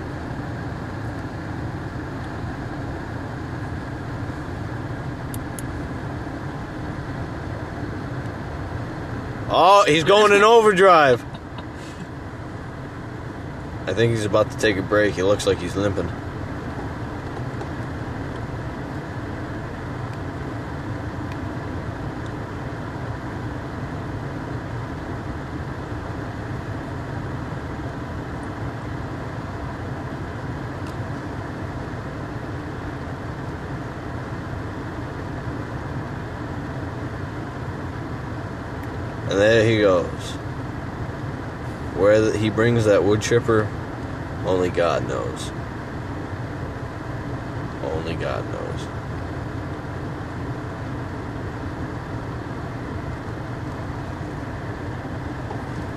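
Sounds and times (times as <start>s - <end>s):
steady mechanical rumble: 0.0s - 55.9s.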